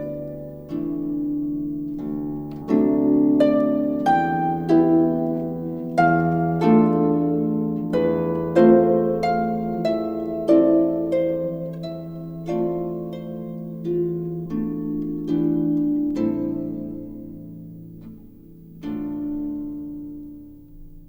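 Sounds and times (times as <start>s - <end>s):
plucked string notes: 0.0s - 21.0s.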